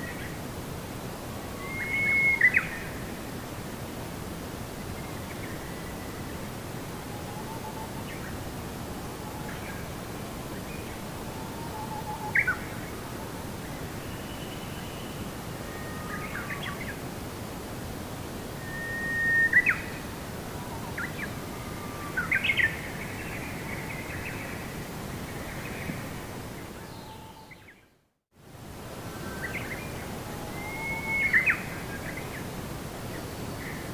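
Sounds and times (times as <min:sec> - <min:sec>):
low background noise: 0:00.0 - 0:33.9.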